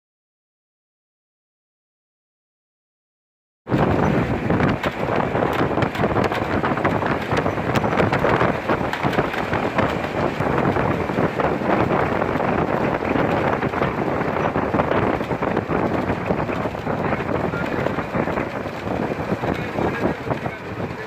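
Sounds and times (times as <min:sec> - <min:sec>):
wind on microphone: 0:03.7 - 0:21.0.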